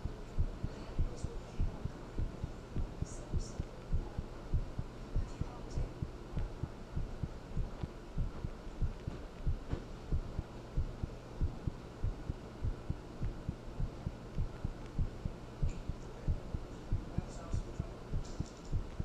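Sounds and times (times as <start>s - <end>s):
heartbeat: 0.0s - 19.0s
low steady hum: 0.0s - 19.0s.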